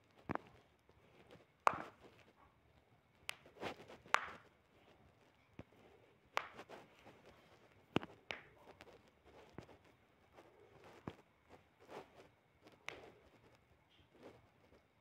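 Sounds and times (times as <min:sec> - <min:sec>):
soft rustles: 0:00.0 - 0:15.0.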